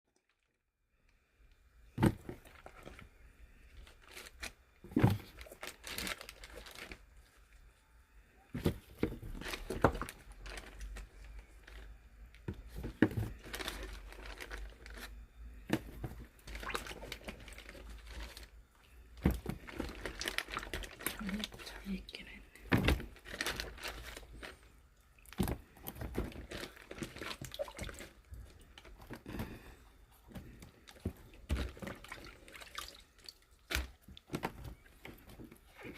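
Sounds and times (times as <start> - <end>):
plastic crinkling and rustling: 2.0 - 7.6, 8.4 - 35.9.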